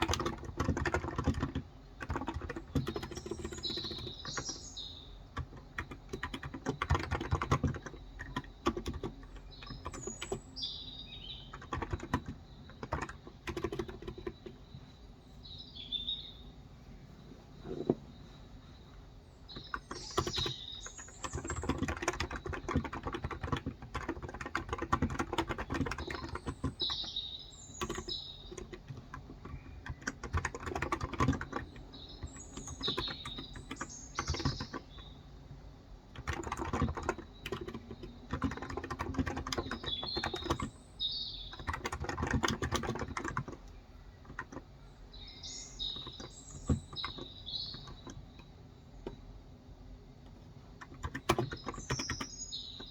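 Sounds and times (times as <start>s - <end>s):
typing on a keyboard: 0.0s - 10.6s, 11.3s - 14.7s, 19.5s - 35.2s, 36.1s - 44.7s, 45.8s - 49.2s, 50.2s - 52.9s
birds chirping: 0.0s - 52.9s.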